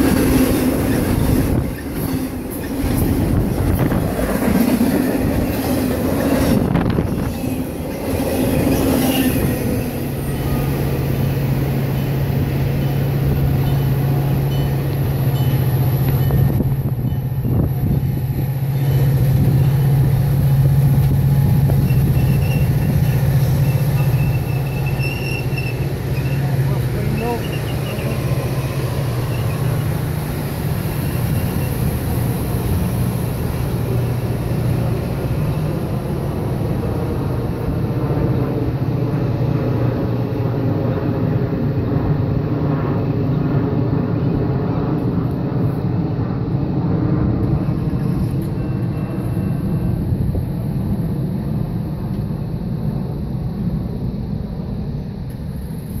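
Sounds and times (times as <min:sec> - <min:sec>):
commuter train rumbling: 0:00.0 - 0:56.0.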